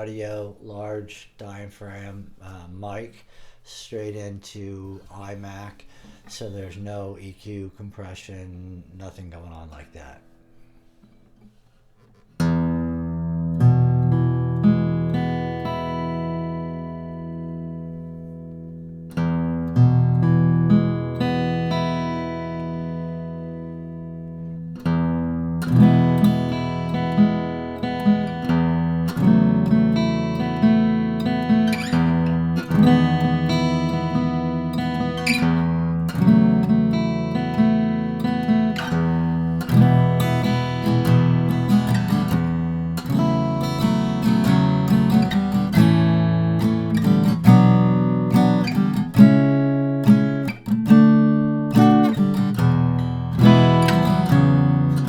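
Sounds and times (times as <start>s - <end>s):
acoustic guitar chords: 0.0s - 55.0s.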